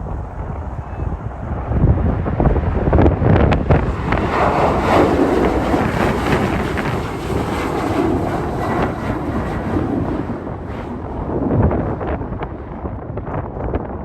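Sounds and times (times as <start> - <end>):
jet engines roaring: 0.0 - 13.6
wind buffeting microphone: 0.0 - 14.0.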